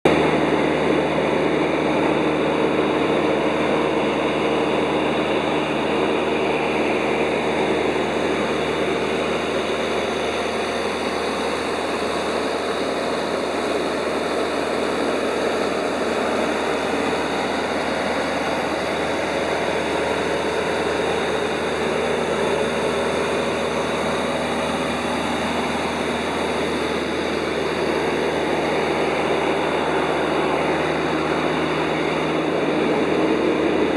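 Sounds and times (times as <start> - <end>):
propeller aircraft engine drone: 0.0 - 33.9
airflow noise: 3.6 - 33.9.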